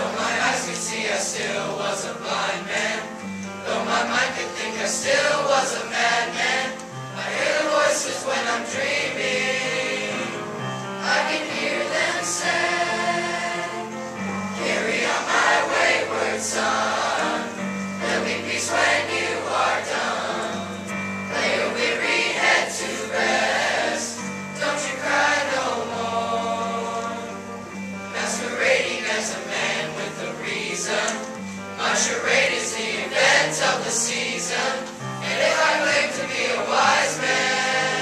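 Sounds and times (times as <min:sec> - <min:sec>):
boys' choir singing: 0:00.0 - 0:38.0.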